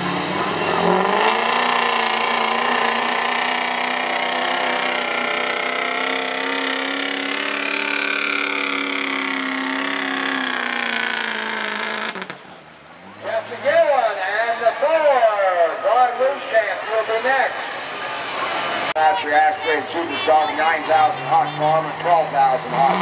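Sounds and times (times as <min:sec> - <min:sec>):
diesel truck engine at full throttle: 0:00.0 - 0:23.0.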